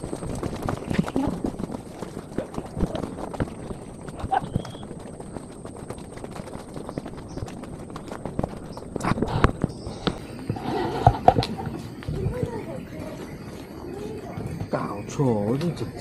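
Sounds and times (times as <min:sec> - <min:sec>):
footsteps on dirt trail: 0:00.0 - 0:16.0.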